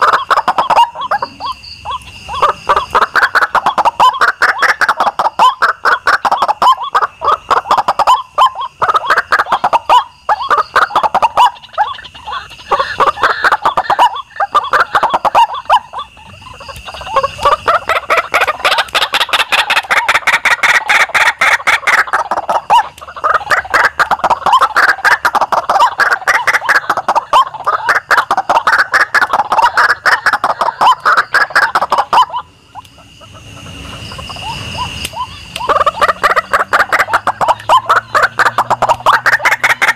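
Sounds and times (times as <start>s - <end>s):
waterhens croaking: 0.0s - 39.9s.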